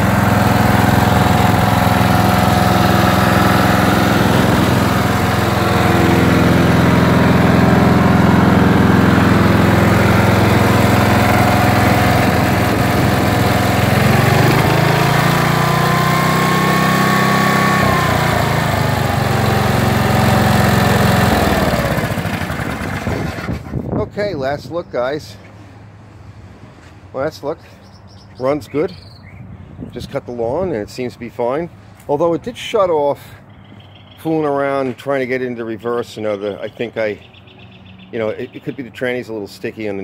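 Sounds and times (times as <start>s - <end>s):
riding mower engine running: 0.0s - 27.0s, 30.2s - 40.0s.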